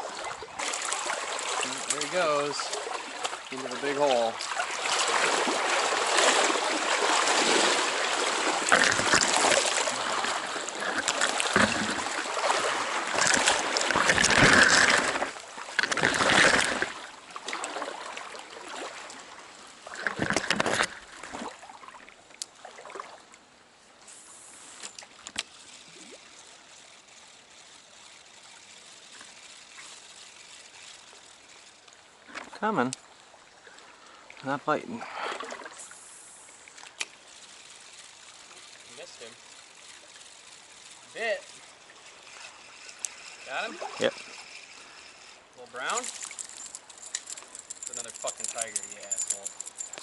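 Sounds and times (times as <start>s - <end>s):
stream water rushing and splashing: 0.0s - 47.1s.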